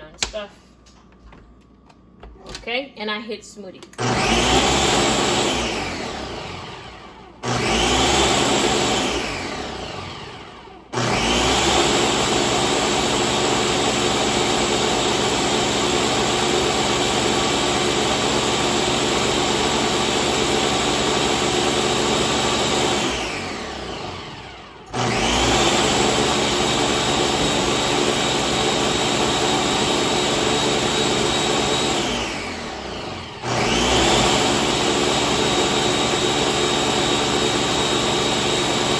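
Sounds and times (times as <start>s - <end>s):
blender motor running: 4.0s - 38.9s.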